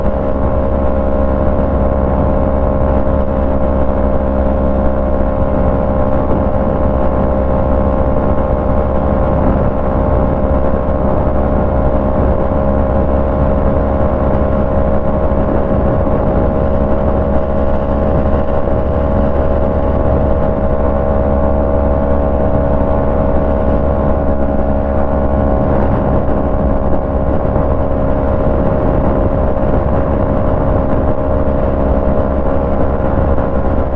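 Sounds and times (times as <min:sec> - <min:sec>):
motorcycle engine running steadily: 0:00.0 - 0:33.9.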